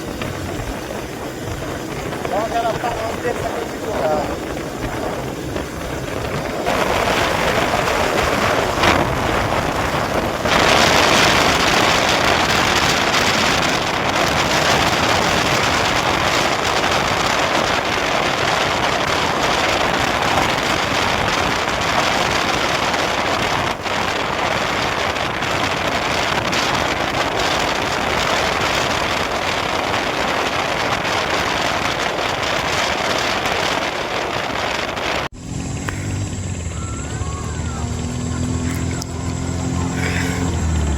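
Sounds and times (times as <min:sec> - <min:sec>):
motorcycle engine: 0:00.0 - 0:40.9
wind over microphone: 0:00.0 - 0:40.9.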